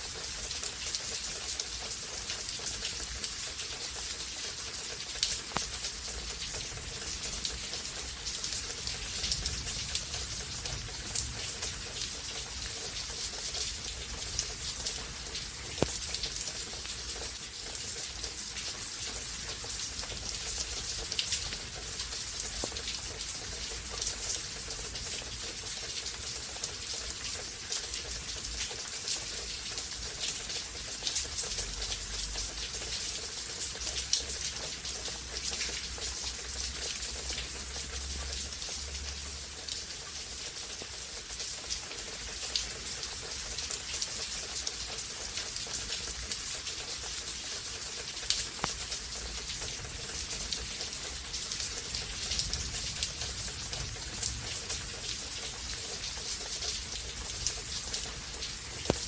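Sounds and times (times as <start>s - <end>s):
rain falling in a storm: 0.0s - 59.0s.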